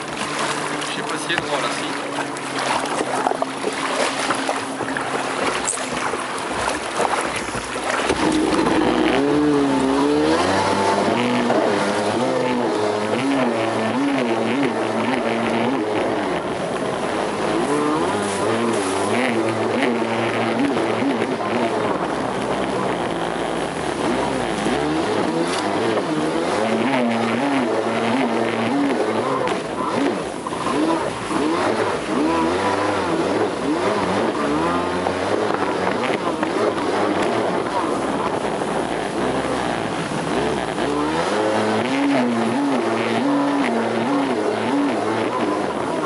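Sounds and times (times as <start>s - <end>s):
jet ski engine revving: 0.0s - 46.0s
wind and water spray: 0.0s - 46.0s.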